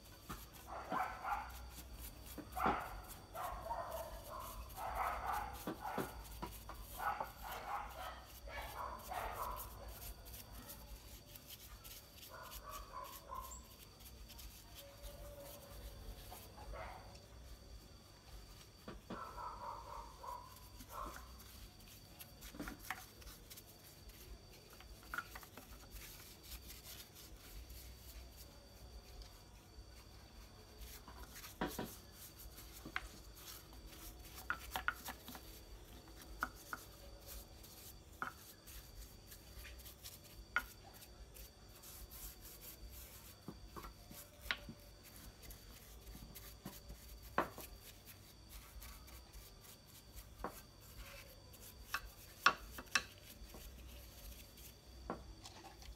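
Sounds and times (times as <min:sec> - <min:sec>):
brushing strokes: 0:00.0 - 0:55.9.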